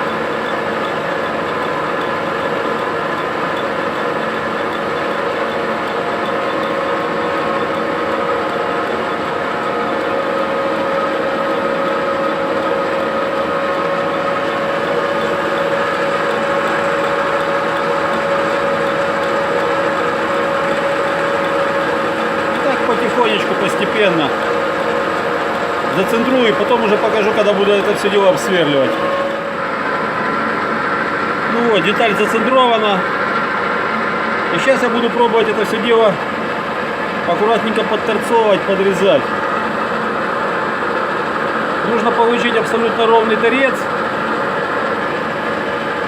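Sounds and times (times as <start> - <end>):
mechanical hum with whine: 0.0 - 46.0
metal lathe running: 0.0 - 46.0.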